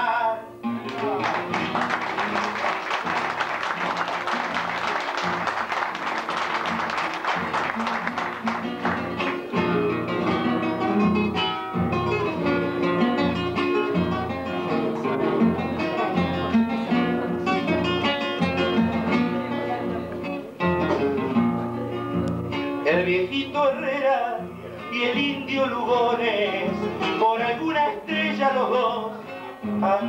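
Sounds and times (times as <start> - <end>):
acoustic guitars playing: 0.0 - 30.0.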